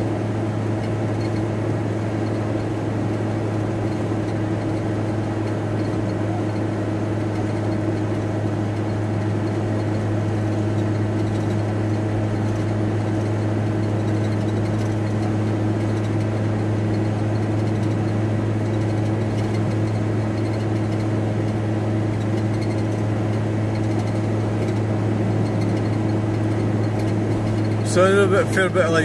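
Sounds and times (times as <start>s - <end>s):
van engine and road drone: 0.0s - 29.0s.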